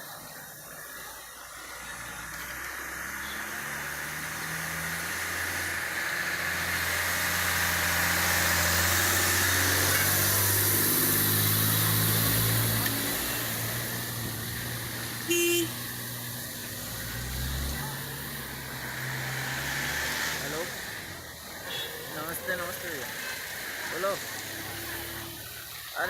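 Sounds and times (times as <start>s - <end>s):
vehicle engine passing: 0.8s - 26.0s.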